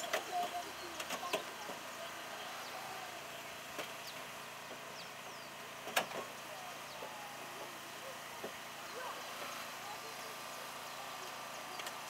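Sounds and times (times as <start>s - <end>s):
hydraulic power unit running: 0.0s - 12.0s.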